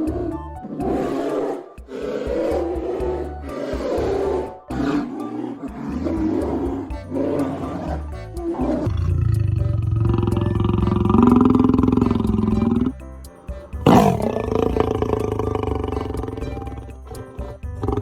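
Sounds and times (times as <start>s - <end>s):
large animal growling and roaring: 0.0s - 11.3s, 13.8s - 17.3s
background music: 0.0s - 18.0s
deep pulsing animal call: 0.0s - 18.0s.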